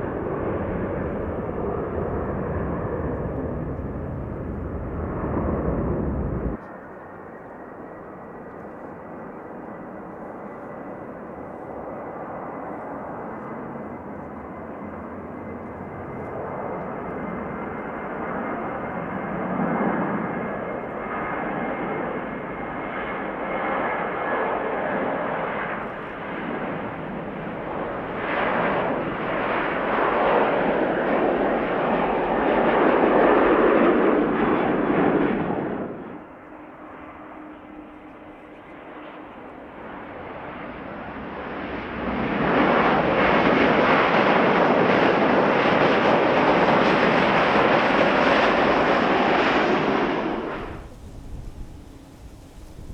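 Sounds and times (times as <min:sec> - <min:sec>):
jet airliner engines: 0:00.0 - 0:52.9.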